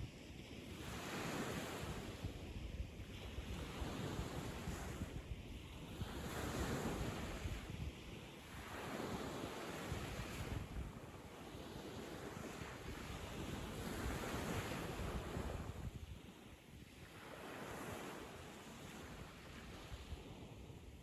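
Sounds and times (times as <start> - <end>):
ocean waves washing onto beach: 0.0 - 21.0
wind rumble on microphone: 0.0 - 21.0.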